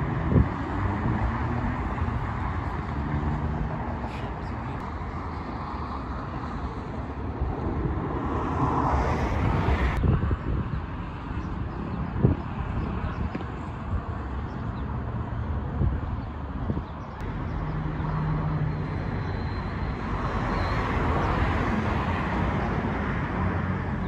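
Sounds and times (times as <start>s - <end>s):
freeway traffic rumble: 0.0s - 24.0s.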